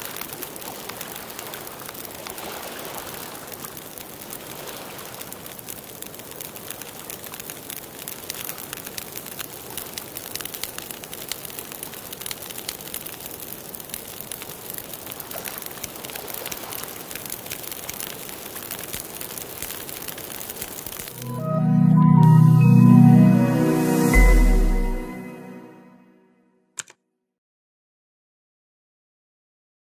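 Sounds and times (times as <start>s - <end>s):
campfire crackling and popping: 0.0s - 25.1s.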